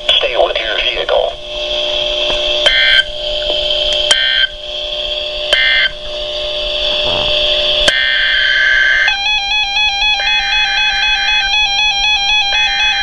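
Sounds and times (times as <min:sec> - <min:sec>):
steady whine: 0:00.0 - 0:13.0.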